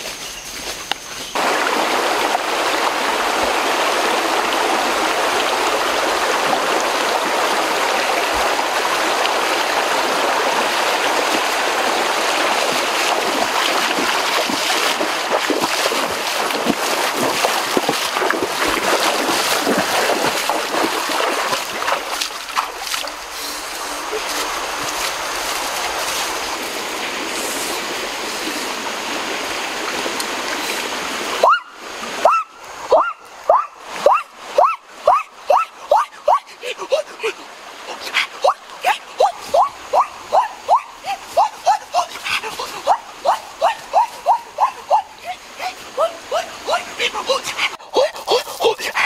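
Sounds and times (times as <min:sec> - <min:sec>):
stream water rushing: 0:00.0 - 0:49.0
water splashes: 0:00.0 - 0:49.0.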